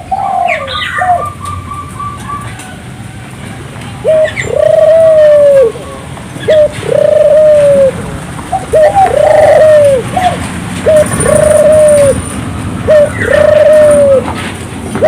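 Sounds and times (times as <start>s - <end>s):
dove cooing: 0.0s - 2.7s, 4.0s - 12.2s, 12.9s - 14.4s.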